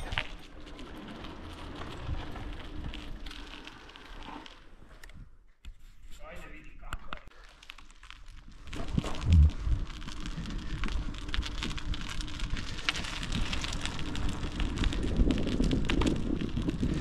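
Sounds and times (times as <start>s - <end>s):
bicycle tyres crackling on grit: 0.0s - 5.3s, 6.4s - 17.0s.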